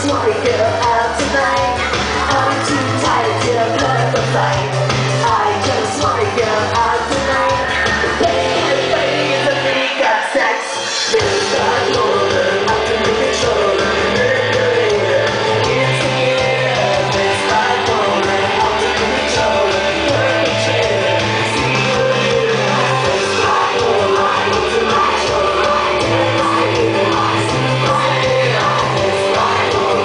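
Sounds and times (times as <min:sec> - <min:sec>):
held bass notes: 0:00.0 - 0:09.8, 0:11.1 - 0:30.0
loud music with singing voice: 0:00.0 - 0:30.0.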